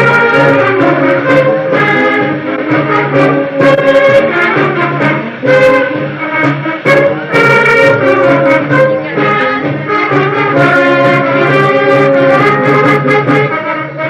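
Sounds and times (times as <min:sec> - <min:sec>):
repeating bass beat: 0:00.0 - 0:13.6
brass band horns melody: 0:00.0 - 0:14.0.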